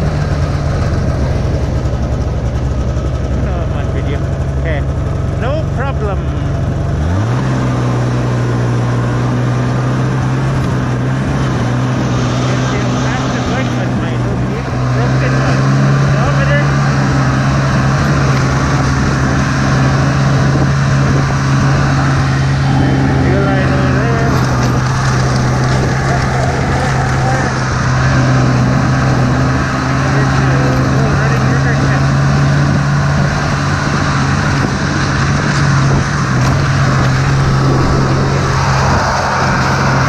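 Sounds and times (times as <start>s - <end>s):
snowmobile engine running: 0.0s - 40.0s
wind noise: 6.6s - 40.0s.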